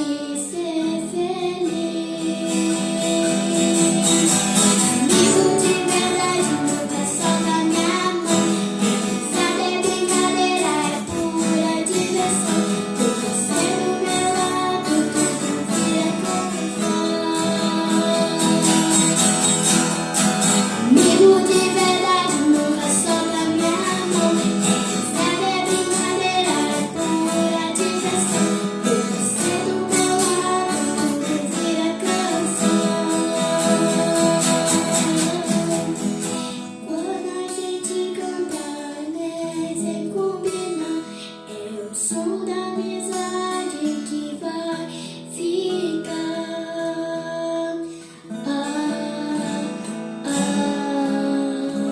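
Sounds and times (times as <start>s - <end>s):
acoustic guitar: 0.0s - 51.9s
woman singing: 0.0s - 51.9s.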